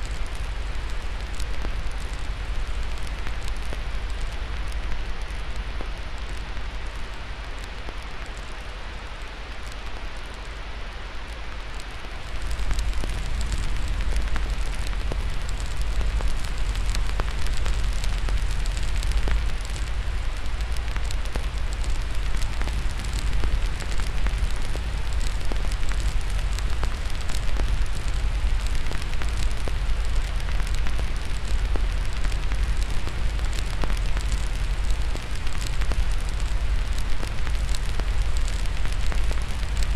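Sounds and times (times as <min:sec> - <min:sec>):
fire crackling and snapping: 0:00.0 - 0:39.9
steady hiss: 0:00.0 - 0:39.9.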